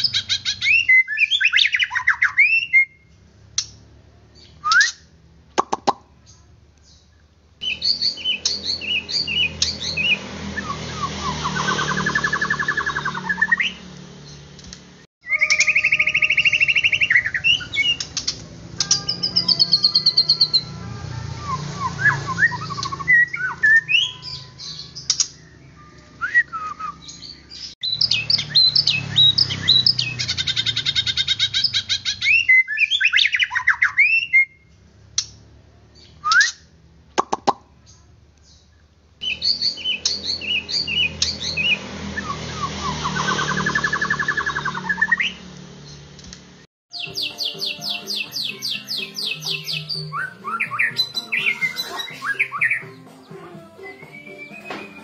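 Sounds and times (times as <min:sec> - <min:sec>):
songbird whistling and trilling: 0:00.0 - 0:03.8, 0:04.4 - 0:05.8, 0:07.6 - 0:13.8, 0:15.2 - 0:20.7, 0:21.3 - 0:34.7, 0:36.0 - 0:37.3, 0:39.2 - 0:45.4, 0:46.9 - 0:53.1, 0:53.8 - 0:55.0.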